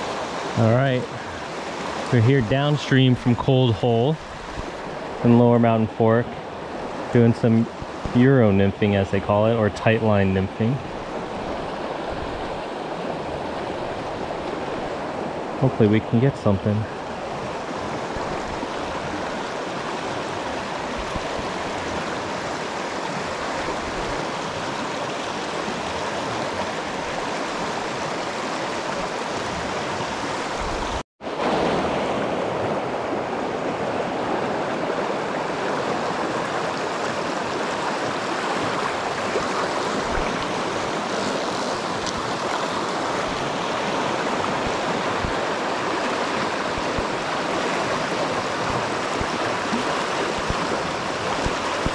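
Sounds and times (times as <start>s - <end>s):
river rushing over stones: 0.0s - 51.9s.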